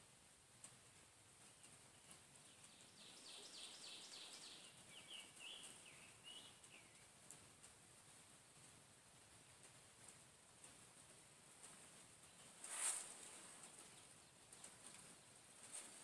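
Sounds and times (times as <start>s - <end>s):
songbird singing: 1.4s - 8.3s, 9.1s - 16.0s.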